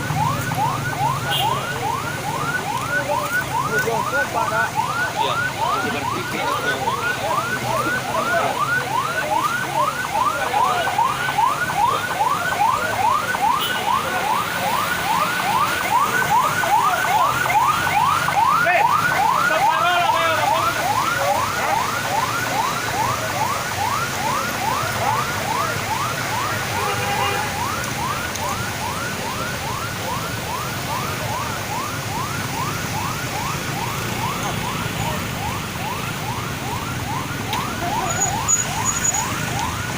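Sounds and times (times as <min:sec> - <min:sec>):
electronic siren sweeping: 0:00.0 - 0:26.8, 0:27.5 - 0:39.9.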